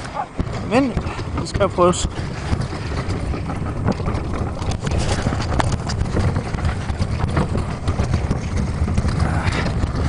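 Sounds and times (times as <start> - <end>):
low rumble: 0.0 - 10.0
sledge rattling over snow: 0.0 - 10.0.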